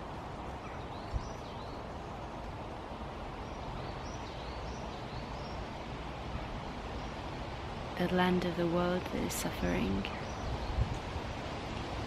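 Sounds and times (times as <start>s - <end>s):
steady woodland hiss: 0.0s - 12.0s.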